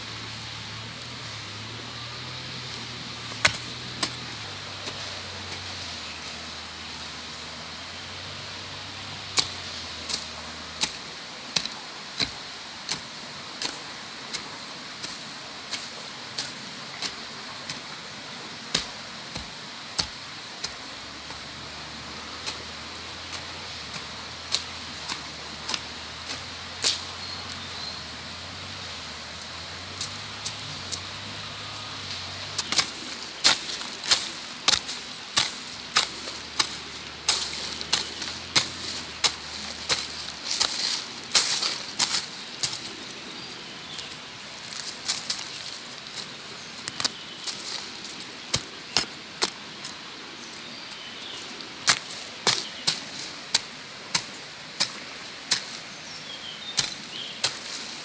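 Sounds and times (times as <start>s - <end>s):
hoe chopping soil: 2.0s - 8.5s, 9.2s - 17.9s, 18.5s - 49.9s, 51.2s - 58.0s.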